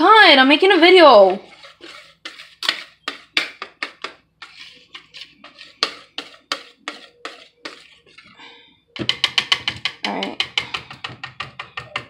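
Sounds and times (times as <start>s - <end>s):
whisk beating batter in bowl: 1.1s - 8.4s, 9.0s - 12.0s.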